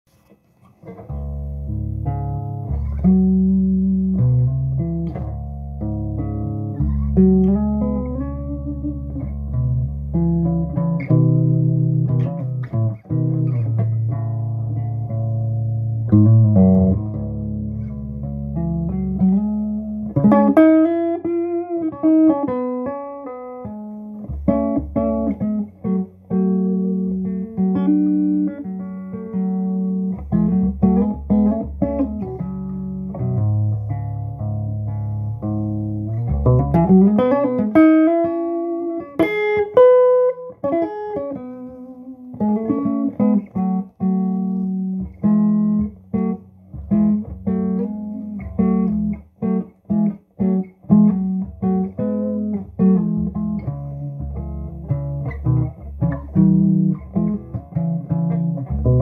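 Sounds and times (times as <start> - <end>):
electric guitar melody: 0.1 - 59.0.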